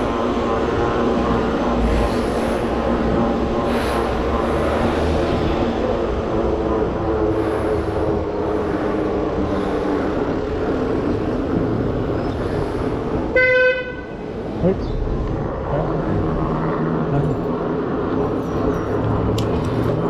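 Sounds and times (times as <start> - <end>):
bike tyre and wind rumble: 0.0 - 20.0.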